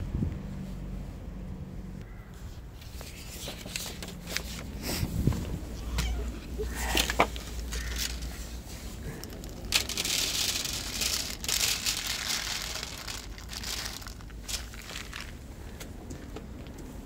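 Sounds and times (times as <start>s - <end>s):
clicks and rustles: 2.8s - 16.9s.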